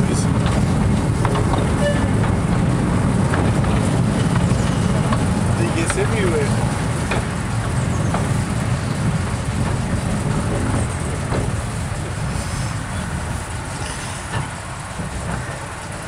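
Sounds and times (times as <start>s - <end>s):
train rumbling on rails: 0.0s - 16.0s
faint rail clicks: 0.1s - 2.6s, 3.3s - 16.0s.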